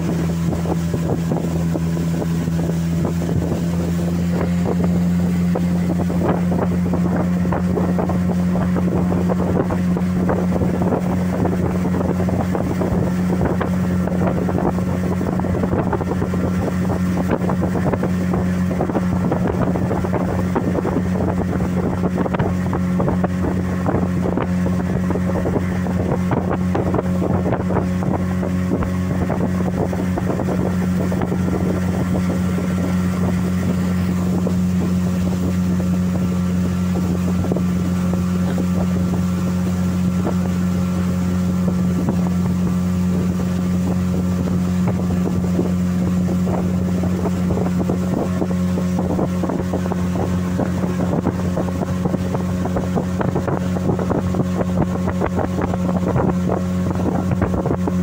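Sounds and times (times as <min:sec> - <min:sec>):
outboard motor humming: 0:00.0 - 0:58.0
water rushing past hull: 0:00.0 - 0:58.0
wind buffeting microphone: 0:00.0 - 0:58.0.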